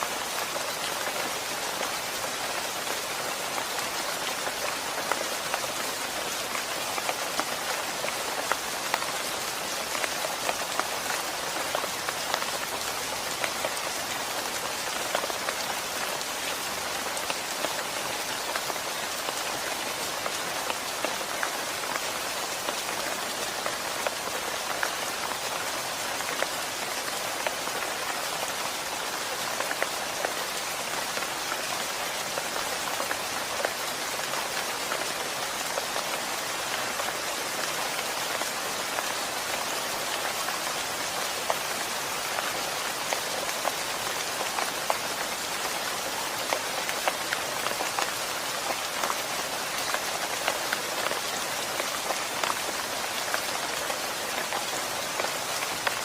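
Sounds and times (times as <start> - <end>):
steady rain falling: 0.0 - 56.0
raindrops ticking close by: 0.1 - 56.0.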